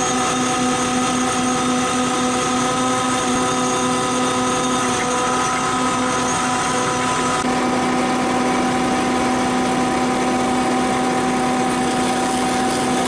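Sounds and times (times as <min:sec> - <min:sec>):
machine engine humming: 0:00.0 - 0:13.0.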